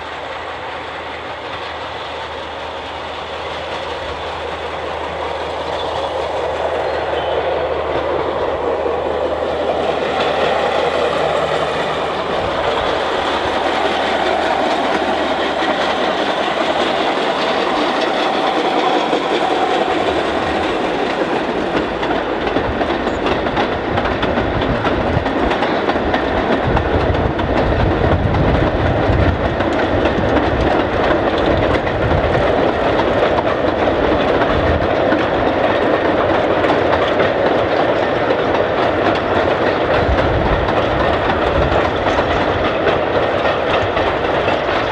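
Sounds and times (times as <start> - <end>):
train rumbling and rattling: 0.0 - 44.9.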